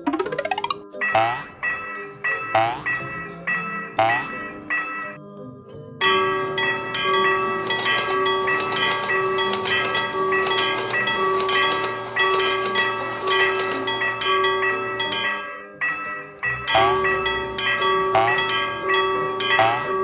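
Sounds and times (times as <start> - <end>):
railroad crossing bell clanging: 1.0 - 5.2, 6.0 - 20.0.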